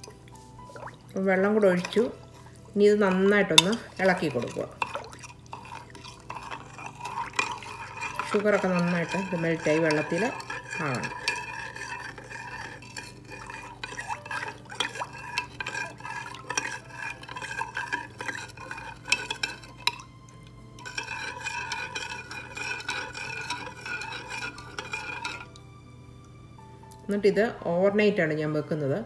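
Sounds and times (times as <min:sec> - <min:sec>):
metal spoon stirring in glass: 0:00.0 - 0:25.6.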